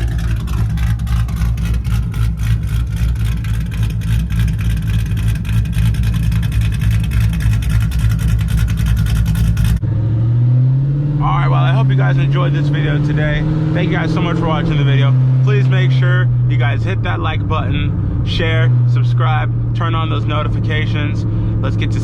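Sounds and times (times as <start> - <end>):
car engine idling with choppy lope: 0.0 - 10.2, 11.2 - 22.0.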